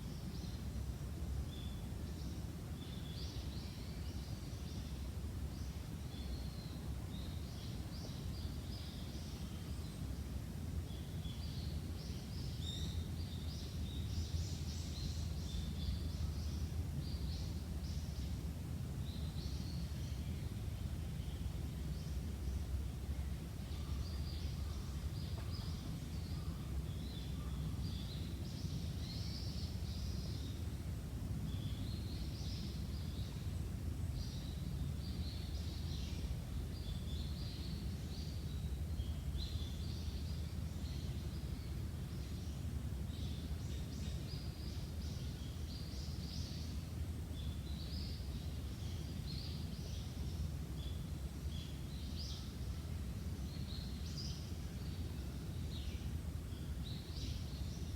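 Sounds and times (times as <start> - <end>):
low outdoor background rumble: 0.0 - 57.9.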